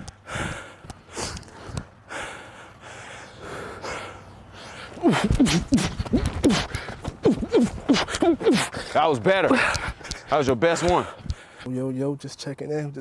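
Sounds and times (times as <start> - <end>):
heavy breathing and exhales: 0.0 - 11.7.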